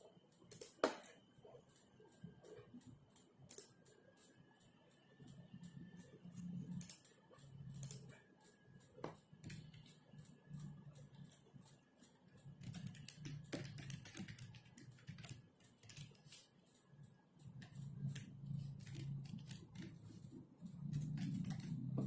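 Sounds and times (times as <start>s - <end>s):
typing on computer keyboard: 0.0s - 22.0s.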